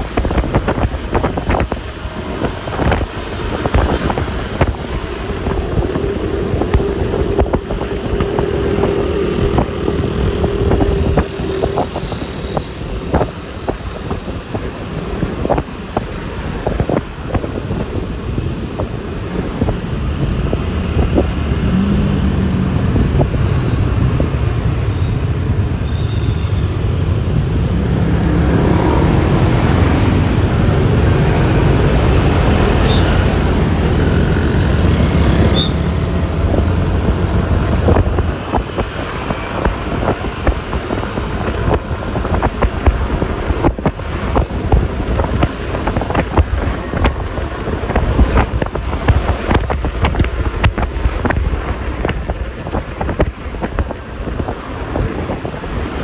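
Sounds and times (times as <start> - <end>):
low scooter engine drone: 0.0 - 14.6, 18.4 - 55.1
road noise: 0.0 - 56.0
wind buffeting microphone: 0.0 - 56.0.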